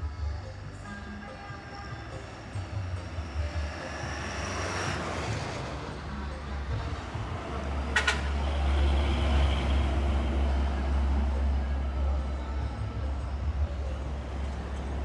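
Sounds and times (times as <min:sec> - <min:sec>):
diesel truck engine rumble: 0:00.0 - 0:15.0
road traffic: 0:00.0 - 0:15.0
truck passing by: 0:01.2 - 0:15.0.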